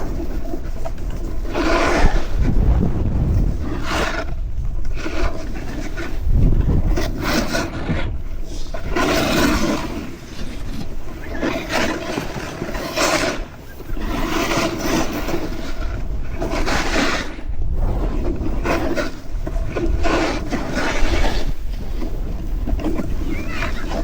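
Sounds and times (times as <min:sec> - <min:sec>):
snowboard scraping over snow: 0:00.0 - 0:24.0
wind rumble on microphone: 0:00.0 - 0:24.0.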